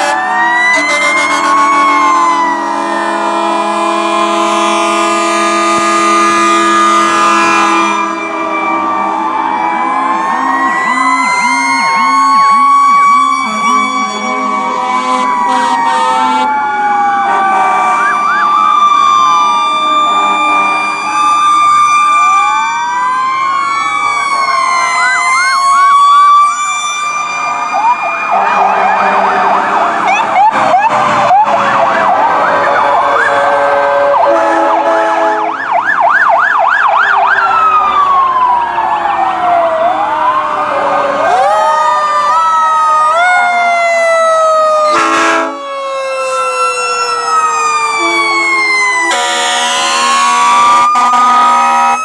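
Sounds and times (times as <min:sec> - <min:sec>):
fast siren yelp: 0:00.0 - 0:52.0
fire truck sirens wailing: 0:00.0 - 0:52.0
steady held siren tones: 0:00.0 - 0:52.0.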